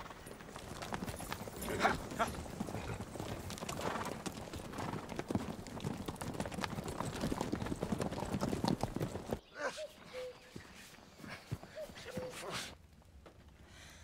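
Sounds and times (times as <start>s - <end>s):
horse hooves clattering on dirt: 0.0s - 13.7s.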